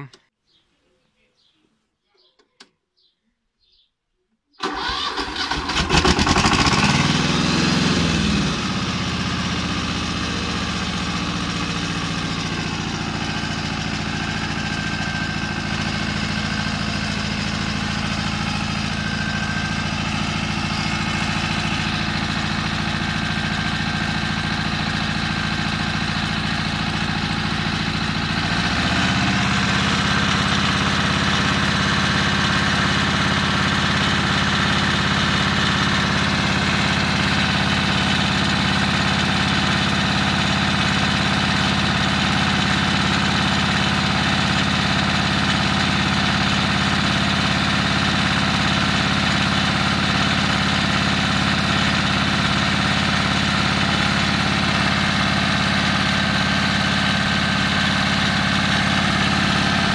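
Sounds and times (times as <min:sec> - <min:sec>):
diesel engine idling: 0:04.6 - 0:59.9
starter cranking engine: 0:04.6 - 0:59.9.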